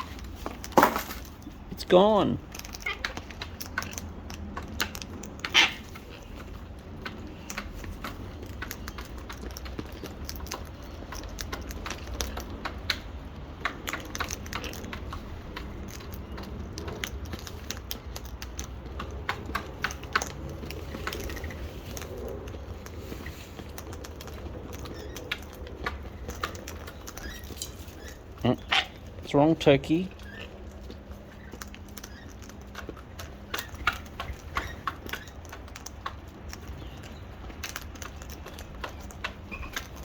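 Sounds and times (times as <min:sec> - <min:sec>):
birds pecking at seed containers: 0:00.0 - 0:40.0.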